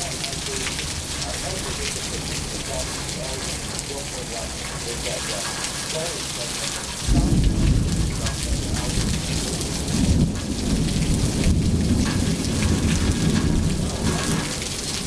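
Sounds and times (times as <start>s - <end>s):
heavy rain: 0.0s - 15.0s
thunder crack and rumble: 0.0s - 15.0s.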